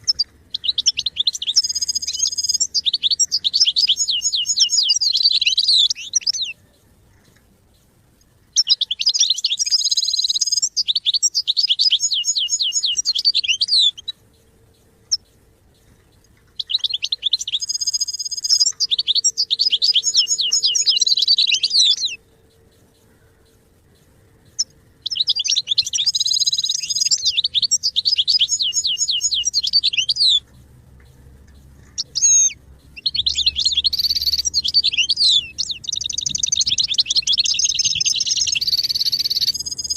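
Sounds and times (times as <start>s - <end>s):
bird twittering and trilling: 0.0s - 7.4s, 8.5s - 39.9s.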